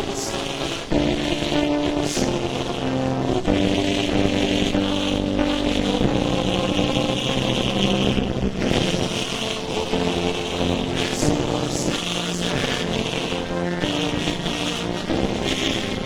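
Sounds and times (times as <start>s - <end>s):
music with held notes: 0.0s - 16.0s.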